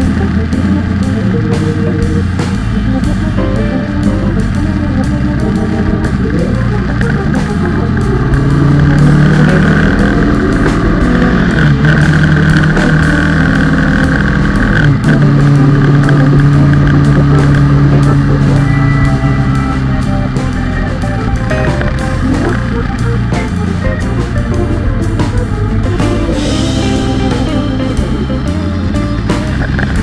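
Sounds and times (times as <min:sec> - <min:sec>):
motorcycle engine running: 0:00.0 - 0:30.0
rock music with guitar: 0:00.0 - 0:30.0.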